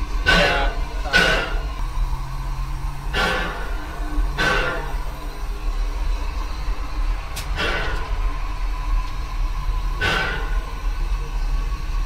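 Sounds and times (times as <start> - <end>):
steam locomotive rumble: 0.0 - 12.0.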